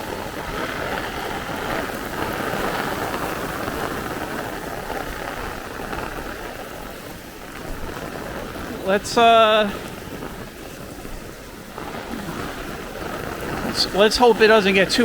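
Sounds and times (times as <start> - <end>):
gusty wind: 0.0 - 15.0
heavy rain pouring: 0.0 - 15.0.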